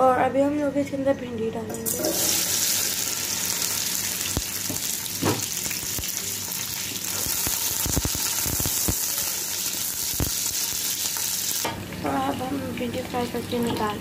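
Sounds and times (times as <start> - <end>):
okra sizzling in hot oil: 1.8 - 14.0.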